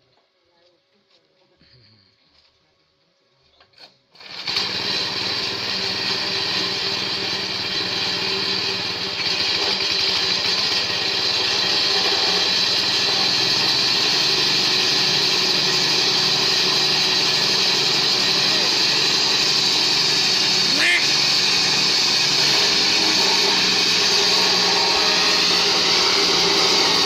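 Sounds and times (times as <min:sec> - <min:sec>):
grass chopper machine running: 0:04.2 - 0:27.0.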